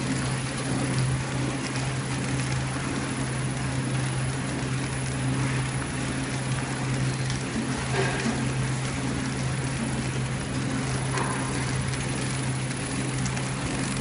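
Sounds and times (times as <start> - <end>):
wrapping machine humming and whirring: 0.0 - 14.0.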